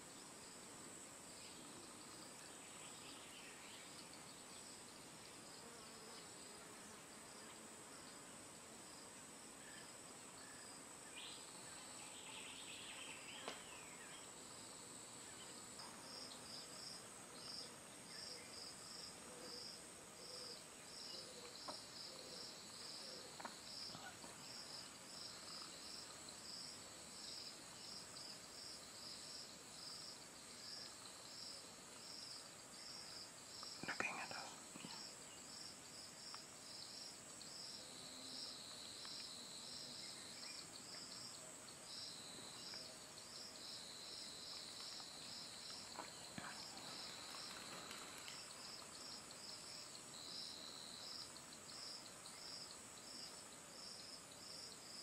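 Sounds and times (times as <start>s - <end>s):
insect pulsing chirp: 9.6s - 55.0s.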